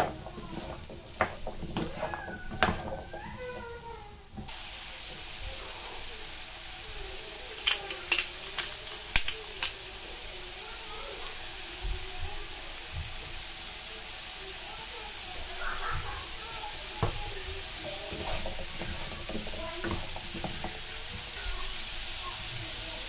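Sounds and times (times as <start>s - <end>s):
squash sizzling in oil: 0.0s - 23.0s.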